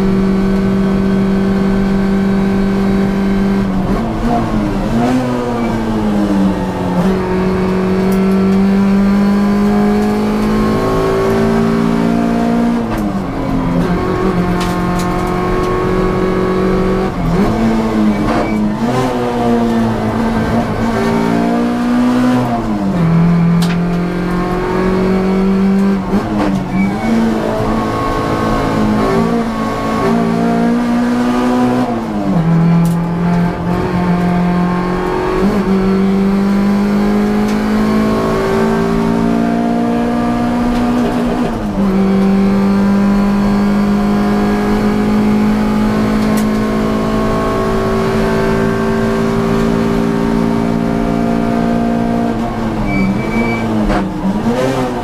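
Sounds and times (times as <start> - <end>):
race car engine under load: 0.0 - 55.0.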